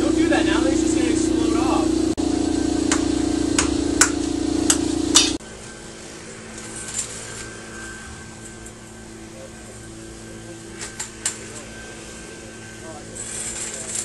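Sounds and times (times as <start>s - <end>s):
loud steady hum: 0.0s - 14.0s.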